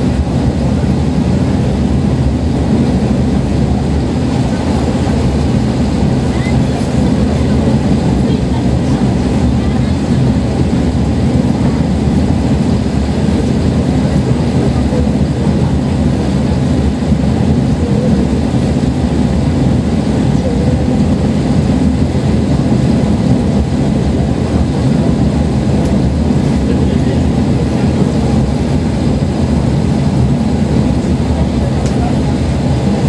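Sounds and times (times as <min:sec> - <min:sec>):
train engine rumble: 0:00.0 - 0:33.0.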